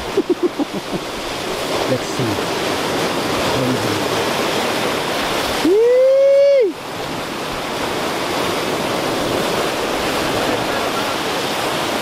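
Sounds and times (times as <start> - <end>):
waves breaking on rocks: 0.0 - 12.0.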